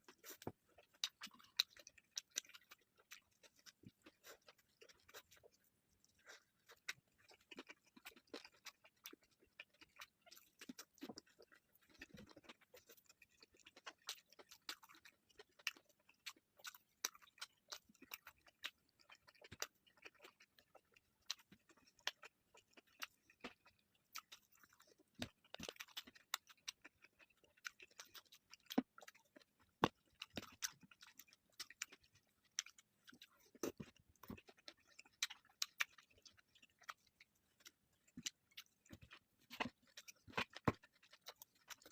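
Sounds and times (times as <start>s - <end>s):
chewing and crunching food: 0.0s - 41.9s.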